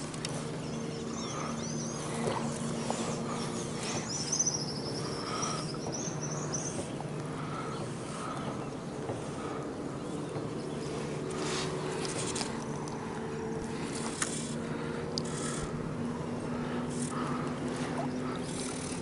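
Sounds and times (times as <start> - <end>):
low outdoor hum: 0.0 - 19.0
soft bird calls: 0.0 - 19.0.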